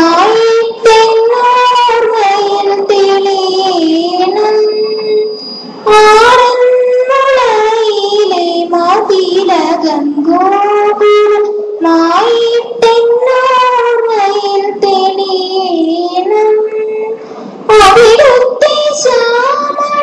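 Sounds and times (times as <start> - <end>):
girl singing unaccompanied: 0.0 - 4.8, 5.9 - 20.0.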